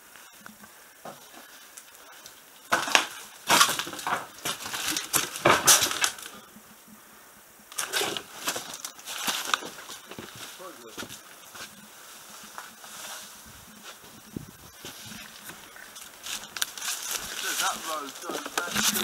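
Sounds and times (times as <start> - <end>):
footsteps crunching on rubble: 1.0 - 6.5, 7.8 - 19.0.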